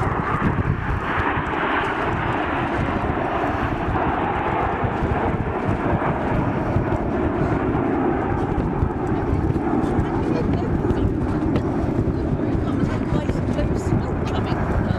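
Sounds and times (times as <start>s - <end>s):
aircraft engine noise: 0.0s - 14.9s.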